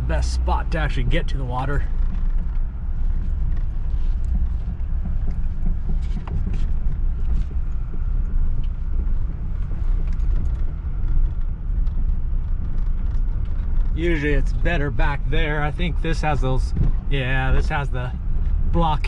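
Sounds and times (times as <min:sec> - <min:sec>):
car rumbling over gravel: 0:00.0 - 0:19.0.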